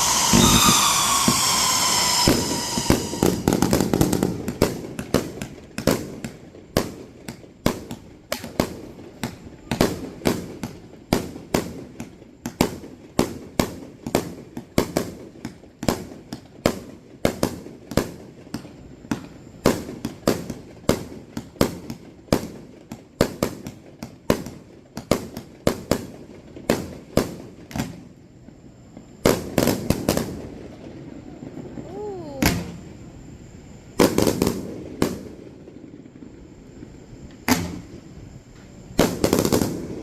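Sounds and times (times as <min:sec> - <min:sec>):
fireworks bangs: 0:00.0 - 0:28.1, 0:29.2 - 0:33.1, 0:33.8 - 0:40.0.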